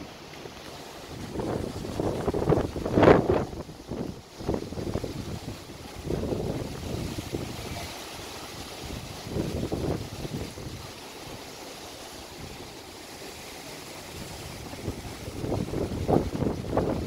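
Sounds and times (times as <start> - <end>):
strong wind buffeting microphone: 1.0 - 11.6, 13.8 - 17.0.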